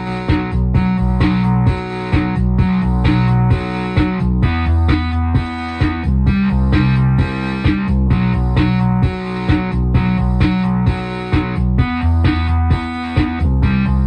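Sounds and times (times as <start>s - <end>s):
buzzy synthesizer pattern: 0.0s - 14.0s
synthesizer bass line: 0.0s - 14.0s.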